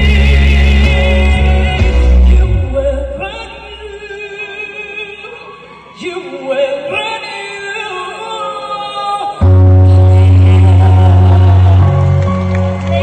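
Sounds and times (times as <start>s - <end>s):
woman singing into a microphone: 0.0s - 12.2s.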